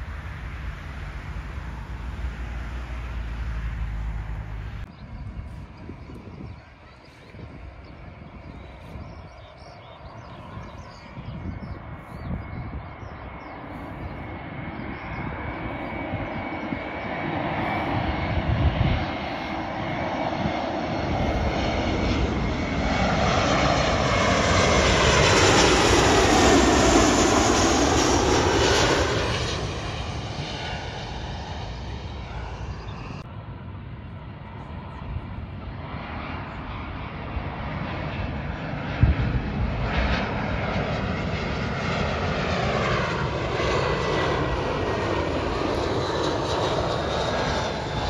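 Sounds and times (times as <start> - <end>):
jet airliner flying overhead: 0.0 - 48.0.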